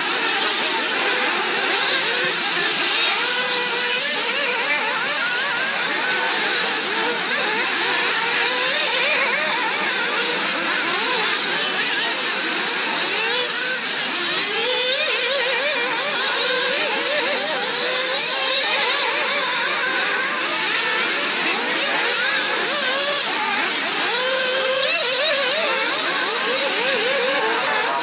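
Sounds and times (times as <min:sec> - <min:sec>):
radio-controlled car engines buzzing: 0:00.0 - 0:28.0.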